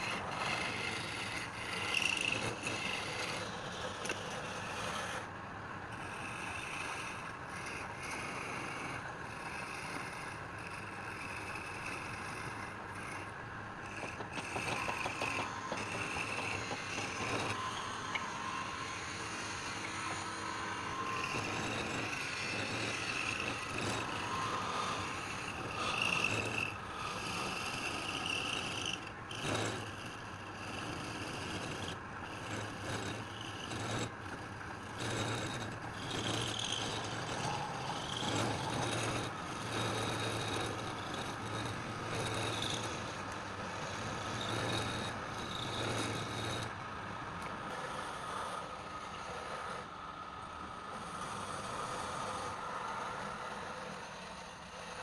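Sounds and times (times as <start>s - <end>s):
tool cutting spinning wood: 0.0s - 55.0s
wood lathe running: 0.0s - 55.0s.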